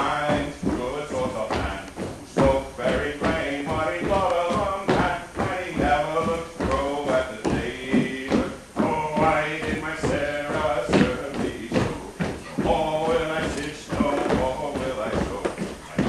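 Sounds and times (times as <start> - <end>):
dancers' feet thumping on floor: 0.0 - 16.0
live folk tune: 0.0 - 16.0.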